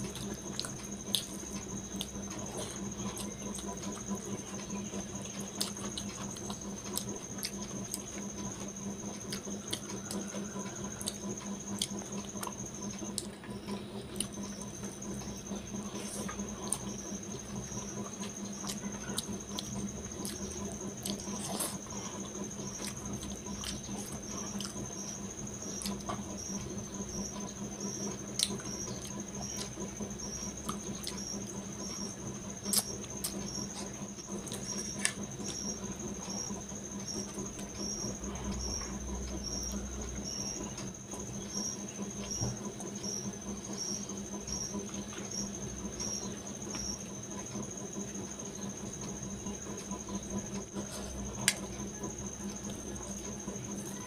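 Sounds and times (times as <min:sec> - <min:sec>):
chewing and lip-smacking: 0:00.0 - 0:54.0
steady low hum: 0:00.0 - 0:54.0.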